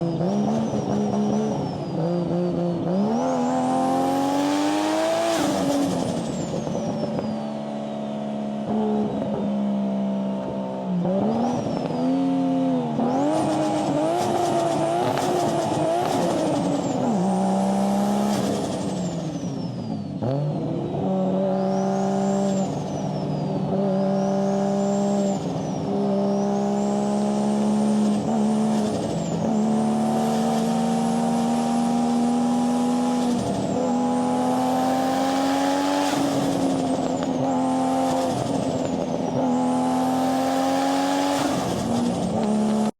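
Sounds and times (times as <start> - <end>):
sports car engine revving: 0.0 - 42.9.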